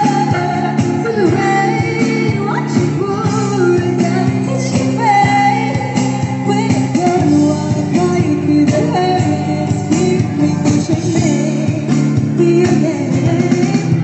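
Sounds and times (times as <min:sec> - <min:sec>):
person singing: 0:00.0 - 0:14.0
steady drum beat: 0:00.0 - 0:14.0.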